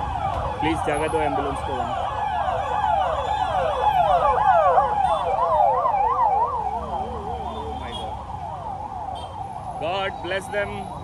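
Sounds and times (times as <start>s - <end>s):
ambulance siren wailing: 0.0s - 11.0s
road and traffic rumble: 0.0s - 11.0s.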